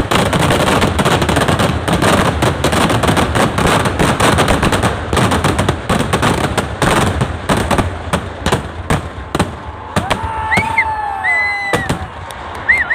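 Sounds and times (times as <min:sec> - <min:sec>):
firecracker cracks and bangs: 0:00.0 - 0:12.9
high whistling fireworks: 0:00.0 - 0:12.9.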